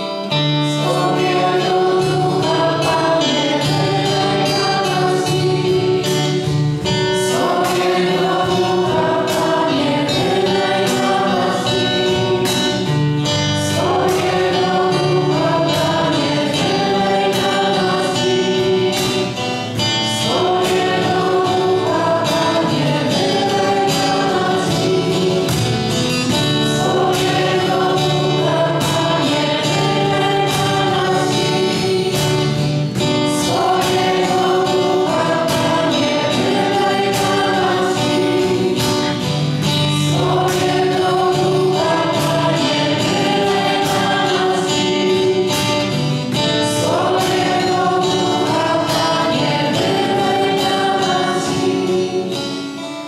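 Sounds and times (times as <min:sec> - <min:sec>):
choir singing a worship song: 0:00.0 - 0:53.0
instrumental accompaniment with beat: 0:00.0 - 0:53.0.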